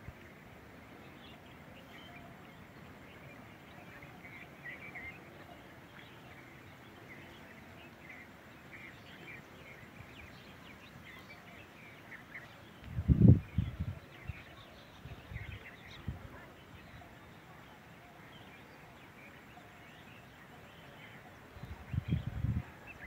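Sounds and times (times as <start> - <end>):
faint background ambience: 0.0 - 23.0
bird chirps: 0.9 - 23.0.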